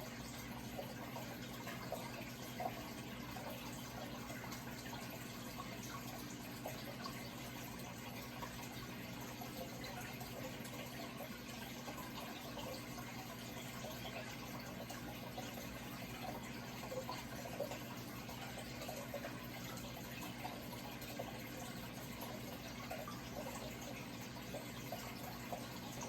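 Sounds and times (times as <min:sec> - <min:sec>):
low steady hum: 0:00.0 - 0:26.0
water trickling and splashing: 0:00.0 - 0:26.0.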